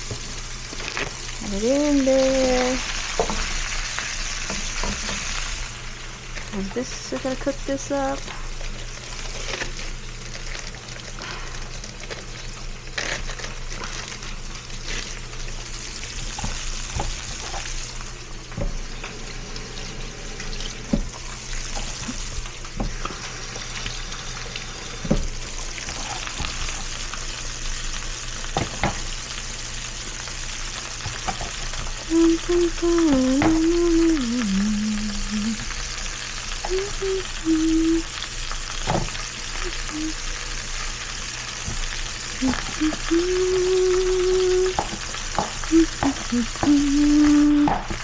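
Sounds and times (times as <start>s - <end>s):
meat sizzling in a pan: 0.0s - 48.0s.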